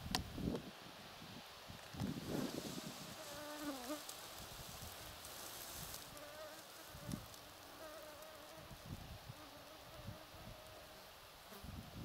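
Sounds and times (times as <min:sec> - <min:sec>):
flying insects buzzing: 0:01.8 - 0:11.8.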